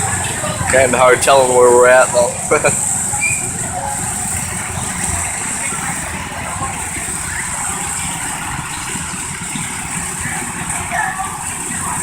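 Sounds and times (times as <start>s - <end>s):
small tractor engine idling: 0.0s - 12.0s.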